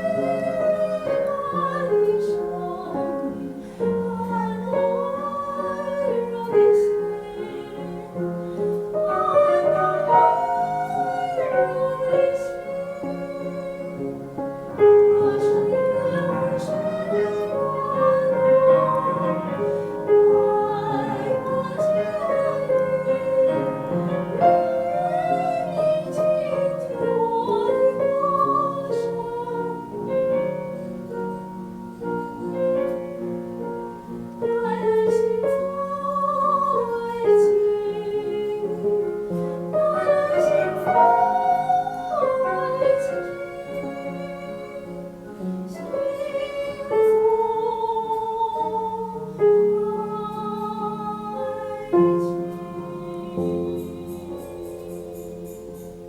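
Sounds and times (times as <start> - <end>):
woman singing operatically: 0.0 - 30.1, 34.4 - 55.5
piano accompaniment: 0.0 - 56.0.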